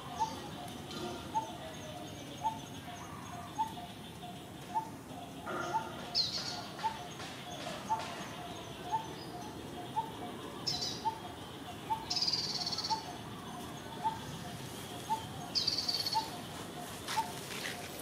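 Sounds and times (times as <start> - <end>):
higher bird chirps: 0.0 - 17.9.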